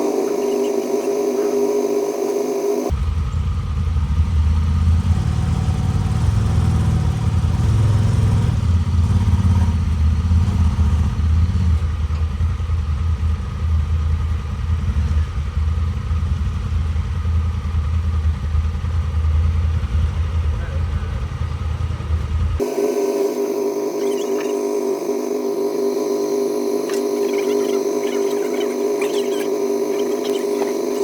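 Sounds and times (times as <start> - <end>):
off-road vehicle engine running: 0.0 - 31.0.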